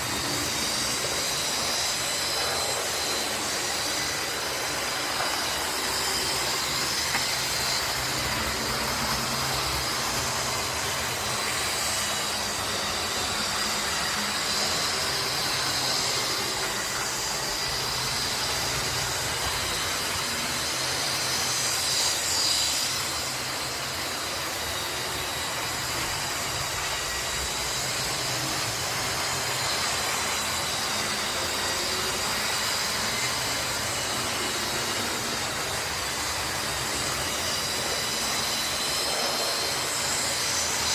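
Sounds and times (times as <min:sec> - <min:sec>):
high motor whine: 0:00.0 - 0:40.9
model trains running: 0:00.0 - 0:40.9.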